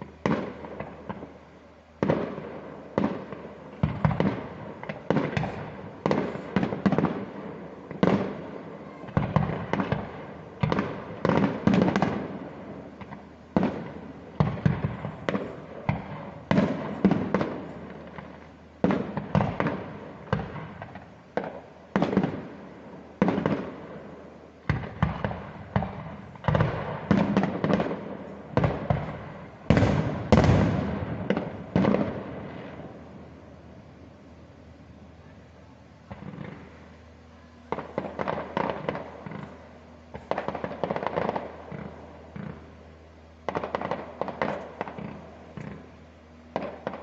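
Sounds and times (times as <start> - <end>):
fireworks bangs: 0.0 - 42.8, 43.4 - 47.0.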